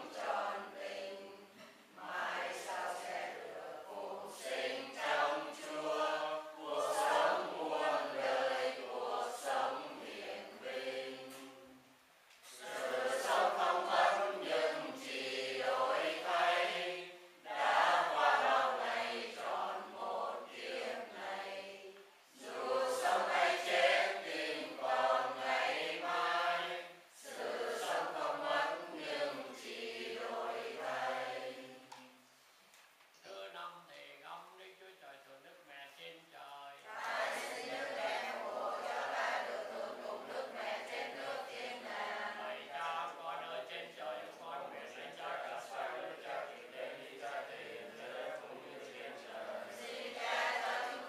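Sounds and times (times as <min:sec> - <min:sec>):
congregation chanting in unison: 0:00.0 - 0:11.8, 0:12.5 - 0:32.1, 0:36.8 - 0:51.0.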